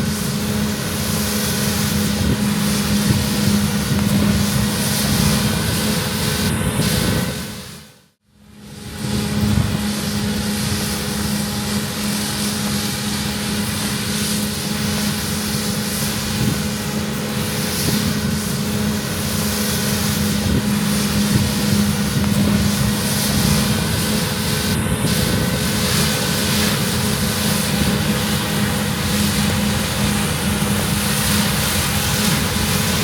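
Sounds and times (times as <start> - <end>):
harvest machinery running: 0.0 - 33.0.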